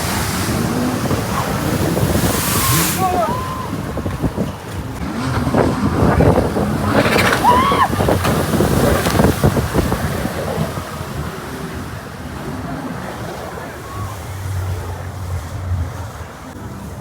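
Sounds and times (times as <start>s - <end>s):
jet ski engine: 0.0s - 17.0s
water noise: 0.0s - 17.0s
wind buffeting microphone: 0.0s - 17.0s.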